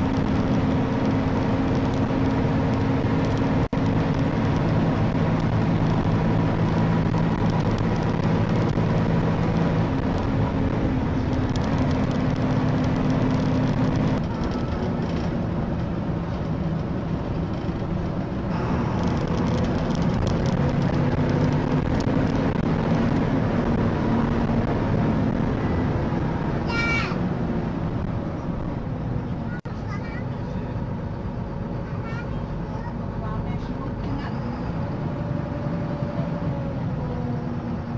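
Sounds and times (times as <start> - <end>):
car engine hum and road noise: 0.0 - 37.9.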